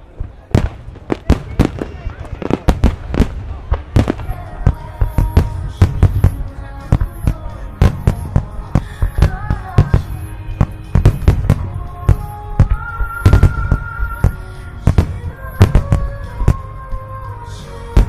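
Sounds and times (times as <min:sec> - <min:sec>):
fireworks bangs: 0:00.0 - 0:17.2
music playing: 0:01.7 - 0:18.0.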